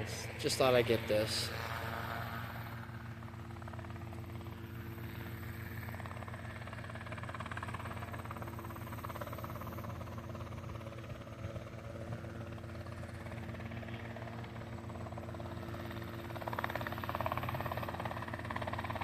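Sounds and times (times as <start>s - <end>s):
helicopter engine and rotor hum: 0.0s - 19.0s.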